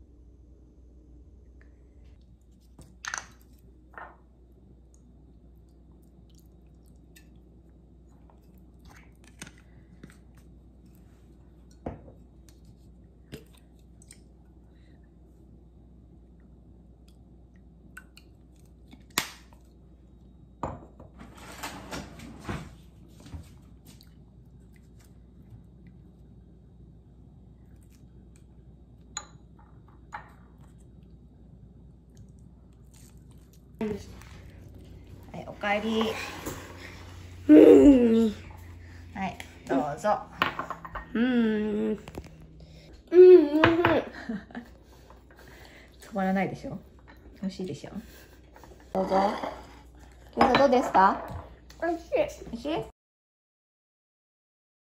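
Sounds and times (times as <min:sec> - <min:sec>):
low room hum: 0:00.0 - 0:52.9.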